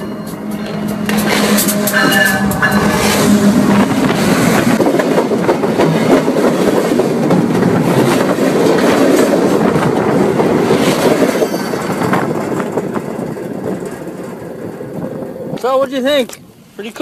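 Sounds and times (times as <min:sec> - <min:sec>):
train wheels rumbling on track: 0:00.0 - 0:17.0
rapid clatter of train wheels: 0:00.2 - 0:16.4.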